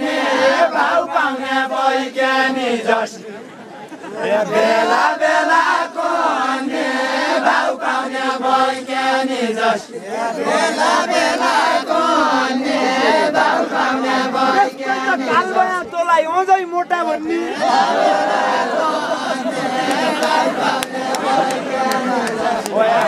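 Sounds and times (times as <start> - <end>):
group singing folk song: 0.0 - 15.7, 17.2 - 23.0.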